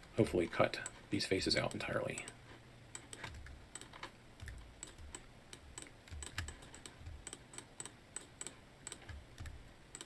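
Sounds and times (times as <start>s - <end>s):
keyboard keys and mouse clicking: 1.6s - 10.0s.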